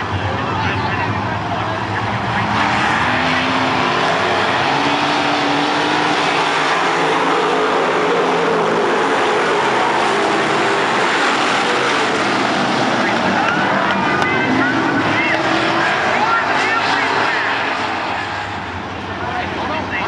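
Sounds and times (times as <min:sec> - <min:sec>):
stock cars racing by: 0:00.0 - 0:20.0.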